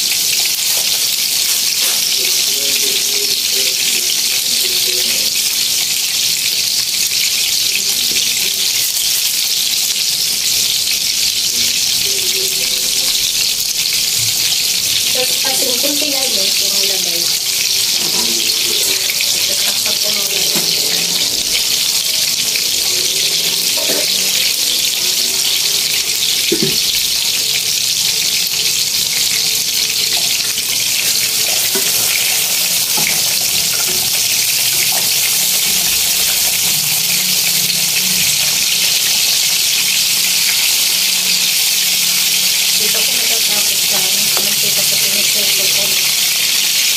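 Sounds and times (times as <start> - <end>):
meat sizzling in a wok: 0.0 - 46.9.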